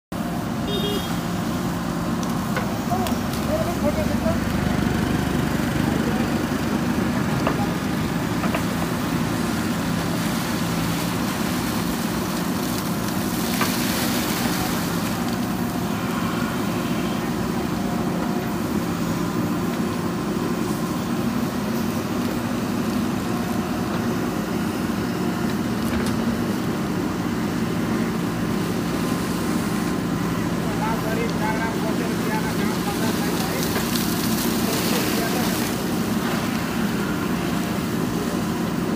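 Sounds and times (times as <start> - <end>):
diesel engine running: 0.1 - 38.9.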